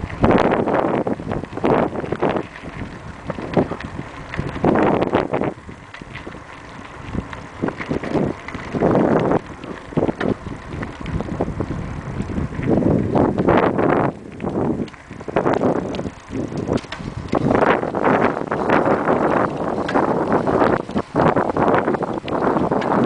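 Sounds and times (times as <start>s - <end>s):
bicycle knocks and rattles: 0.0s - 23.0s
wind buffeting microphone: 0.0s - 23.0s.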